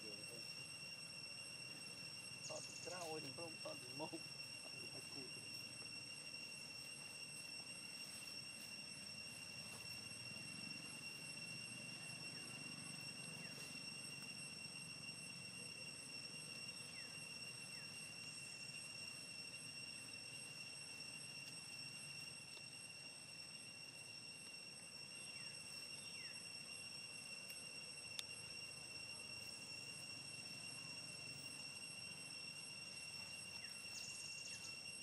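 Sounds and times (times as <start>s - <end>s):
steady high-pitched whine: 0.0s - 35.0s.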